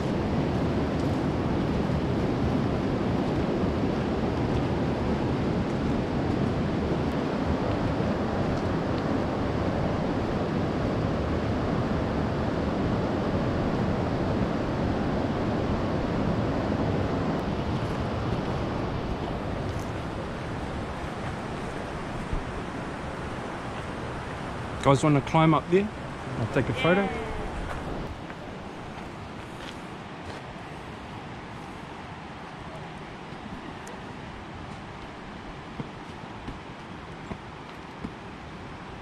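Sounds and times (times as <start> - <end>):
fast-flowing river water: 0.0 - 39.0.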